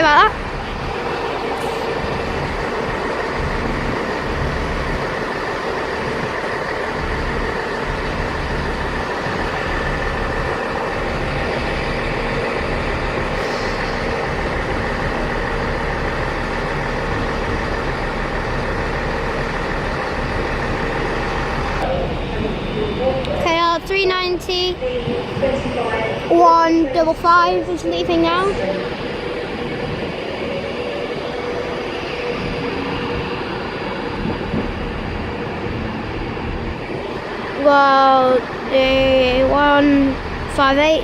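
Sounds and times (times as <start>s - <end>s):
train engine humming: 0.0s - 41.0s.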